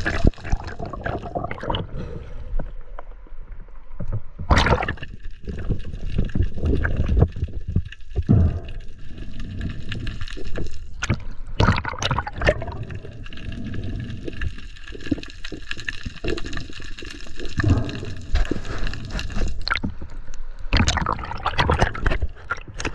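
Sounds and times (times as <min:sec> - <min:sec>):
water gurgling underwater: 0:00.0 - 0:02.2, 0:04.4 - 0:20.1, 0:20.7 - 0:22.9.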